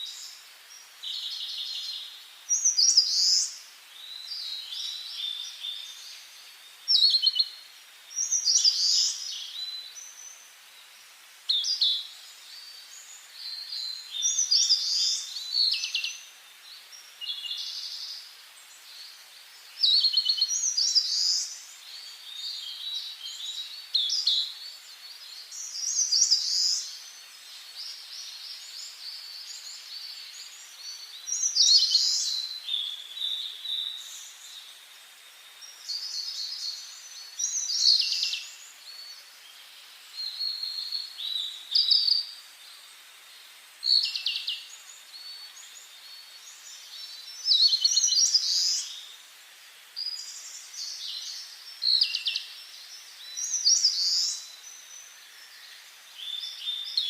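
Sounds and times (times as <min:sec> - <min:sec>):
faint steady hiss: 0:00.0 - 0:57.0
songbirds singing trills: 0:00.0 - 0:57.0.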